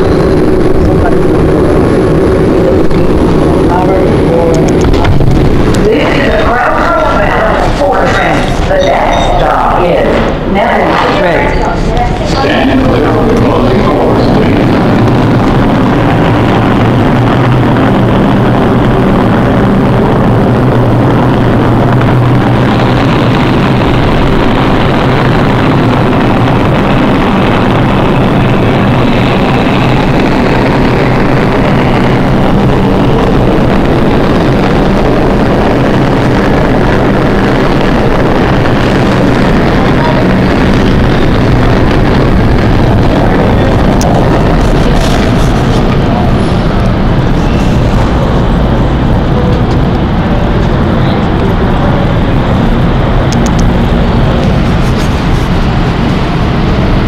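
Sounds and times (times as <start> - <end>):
subway train rumbling past: 0.0 - 57.0.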